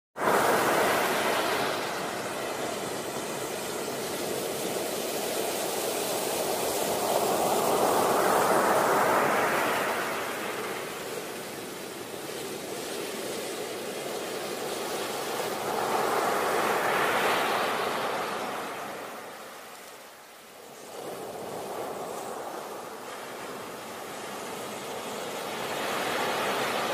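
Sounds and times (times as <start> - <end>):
ocean waves breaking: 0.2 - 26.9.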